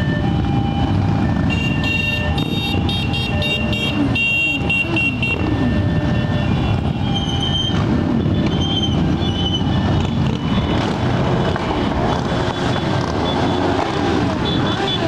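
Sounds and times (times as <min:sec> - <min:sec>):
motorcycle engines rumbling and revving: 0:00.0 - 0:15.0
horn beeps: 0:01.3 - 0:15.0.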